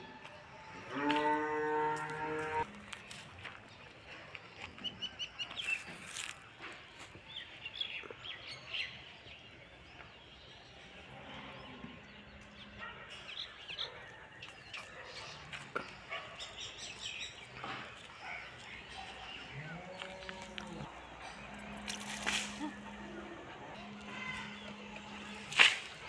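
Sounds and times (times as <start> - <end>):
small birds chirping: 3.0 - 26.0.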